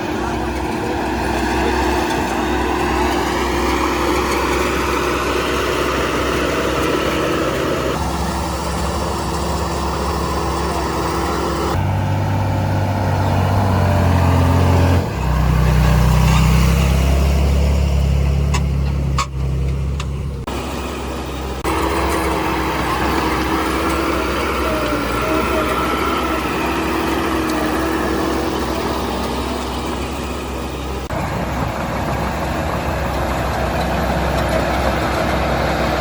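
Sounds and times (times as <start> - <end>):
heavy machinery diesel engines: 0.0 - 36.0.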